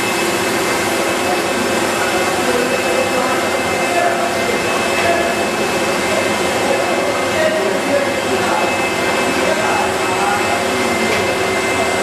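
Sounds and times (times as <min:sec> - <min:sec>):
constant whining tones: 0:00.0 - 0:12.0
machinery whirring: 0:00.0 - 0:12.0.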